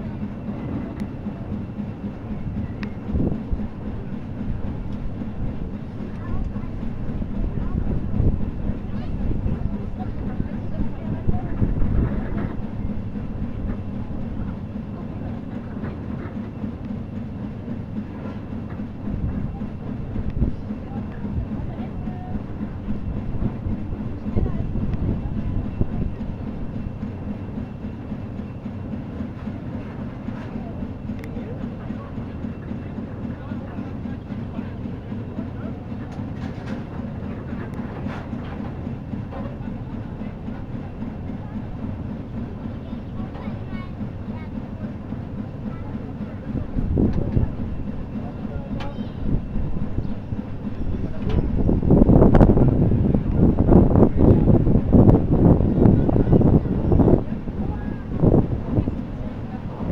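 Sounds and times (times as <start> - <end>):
steam engine beating: 0.0 - 59.9.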